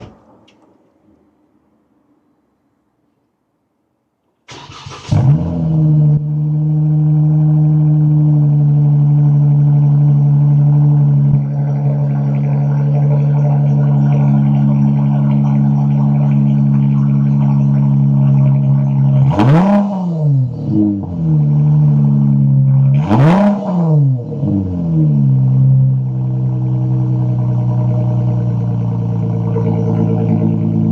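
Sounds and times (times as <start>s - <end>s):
car engine idling and revving: 4.5s - 30.9s.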